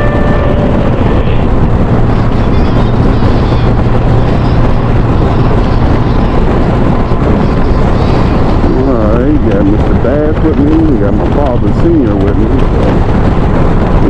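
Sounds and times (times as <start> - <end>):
motorcycle engine drone: 0.0 - 14.0
wind noise rushing: 0.0 - 14.0.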